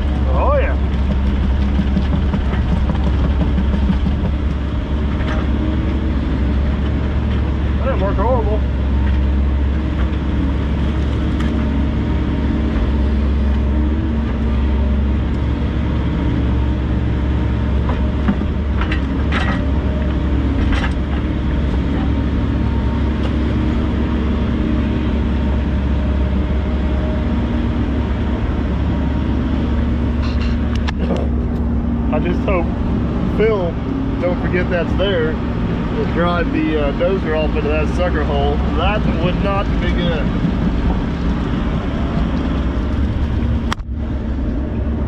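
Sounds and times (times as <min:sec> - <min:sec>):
excavator diesel engine rumbling: 0:00.0 - 0:45.0.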